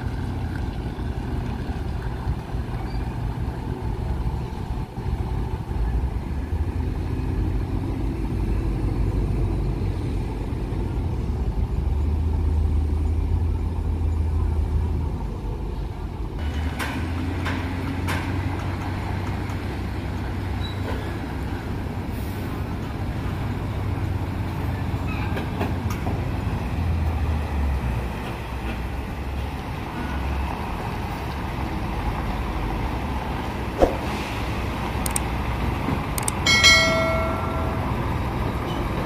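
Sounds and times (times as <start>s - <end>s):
diesel truck engine rumbling: 0.0s - 39.0s.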